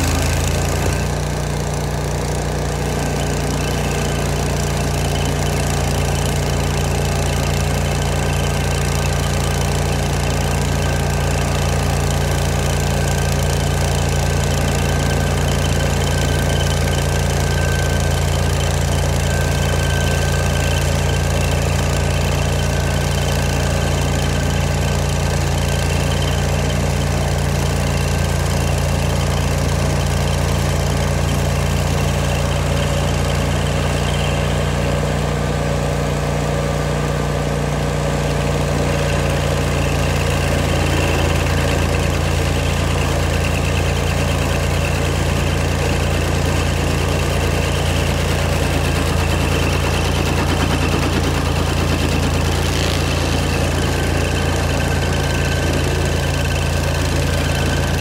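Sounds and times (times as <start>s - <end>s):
stump grinder engine running: 0.0s - 58.0s.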